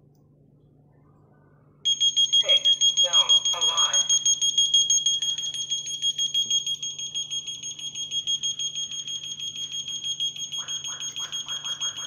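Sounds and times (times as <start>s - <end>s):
burglar alarm siren pulsing: 1.9s - 12.0s.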